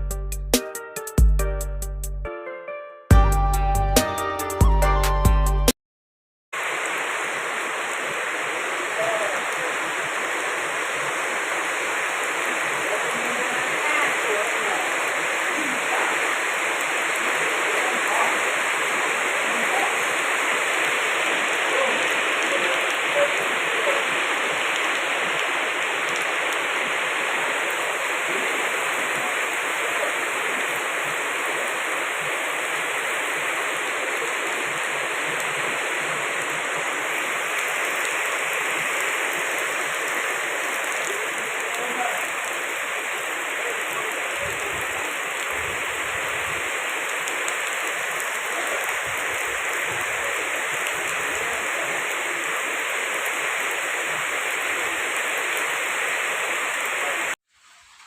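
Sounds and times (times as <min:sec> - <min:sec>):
heavy rain falling: 0:06.6 - 0:58.0.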